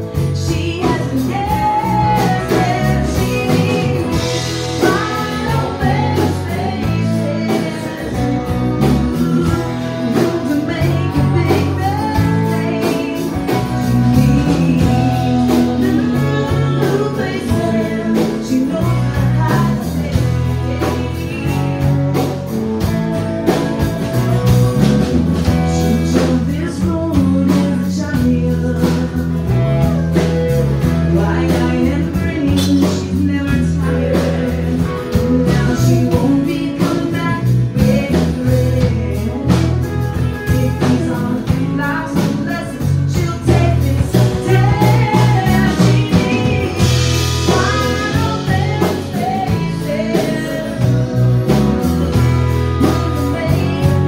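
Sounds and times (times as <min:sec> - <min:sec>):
country band playing: 0:00.0 - 0:54.0
woman singing lead: 0:00.0 - 0:54.0.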